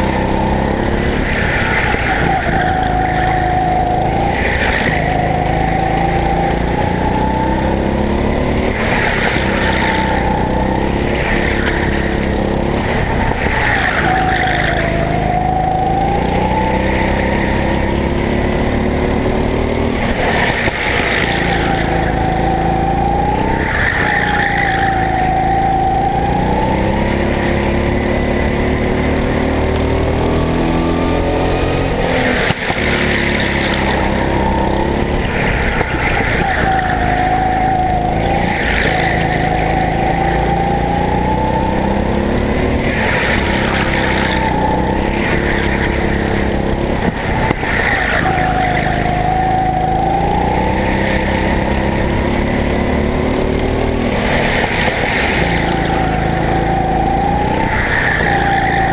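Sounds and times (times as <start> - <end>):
tyre squeal: 0.0 - 7.8, 8.7 - 17.8, 20.3 - 28.4, 32.1 - 52.4, 54.2 - 58.9
go-kart engine running hard: 0.0 - 58.9.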